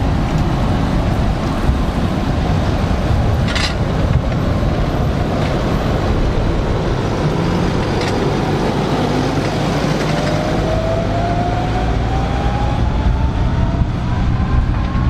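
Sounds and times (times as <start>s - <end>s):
tractor diesel engine passing: 0.0s - 15.0s.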